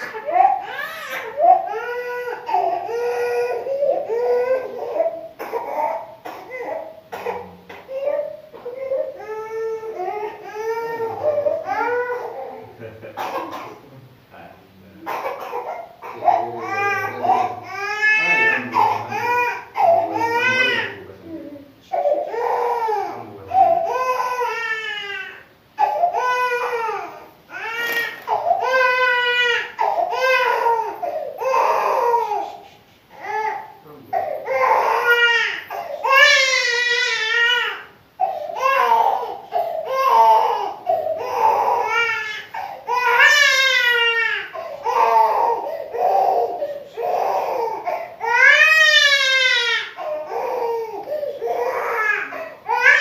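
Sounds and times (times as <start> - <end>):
toddler crying: 0.0 - 12.8, 15.0 - 53.0.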